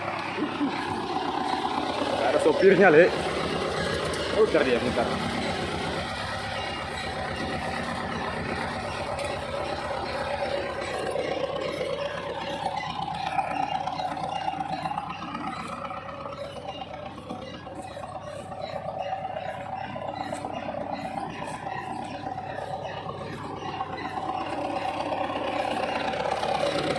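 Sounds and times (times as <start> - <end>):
diesel engine running steadily: 0.0 - 26.9
faint voices: 0.0 - 26.9.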